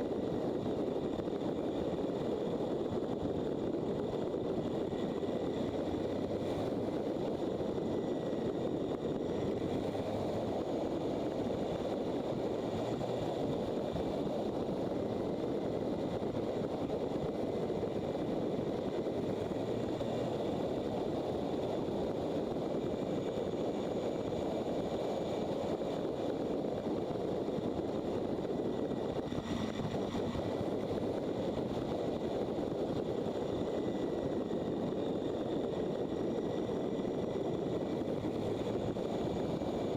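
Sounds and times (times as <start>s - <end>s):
motorcycle engine and wind noise: 0.0s - 39.9s.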